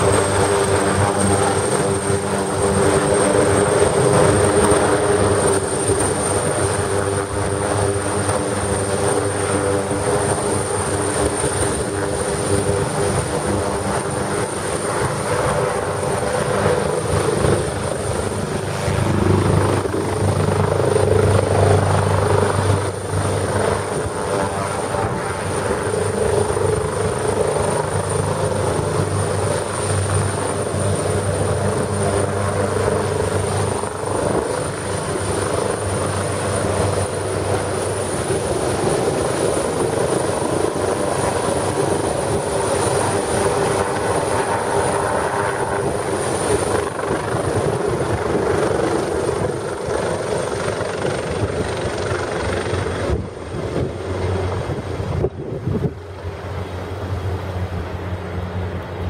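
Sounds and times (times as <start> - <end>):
helicopter rotor noise: 0.0 - 59.0
high turbine whine: 0.0 - 59.0.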